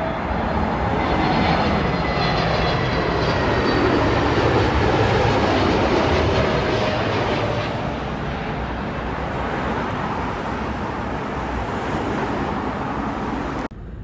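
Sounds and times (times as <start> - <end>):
jet airliner engines passing: 0.0 - 14.0.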